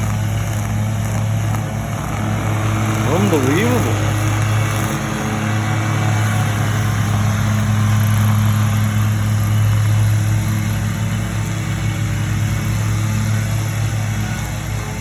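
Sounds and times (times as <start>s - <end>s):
higher engine tone: 0.0s - 15.0s
small engines running at high speed: 0.0s - 15.0s.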